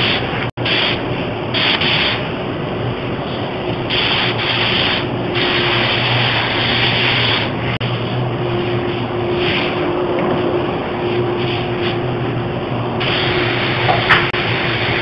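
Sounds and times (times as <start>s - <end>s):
spray gun hissing: 0.0s - 2.3s, 3.8s - 10.0s, 10.6s - 15.0s
steady motor hum: 0.0s - 15.0s.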